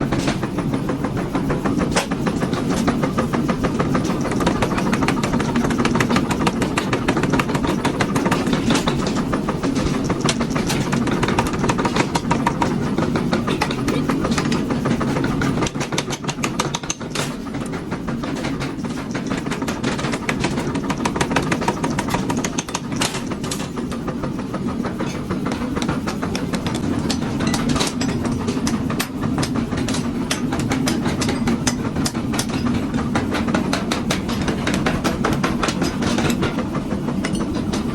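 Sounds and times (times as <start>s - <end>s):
workshop machinery clattering: 0.0s - 37.9s.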